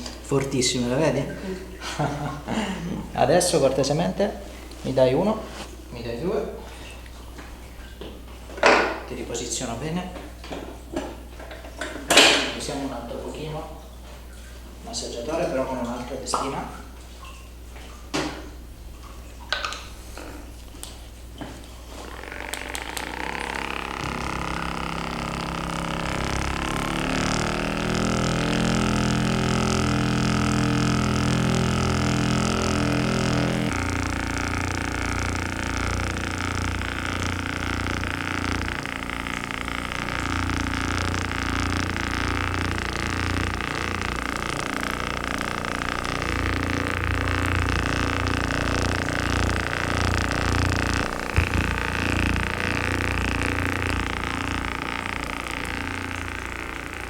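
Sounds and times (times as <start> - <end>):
massager motor buzzing: 0.0 - 5.9, 7.1 - 13.0, 19.6 - 57.0.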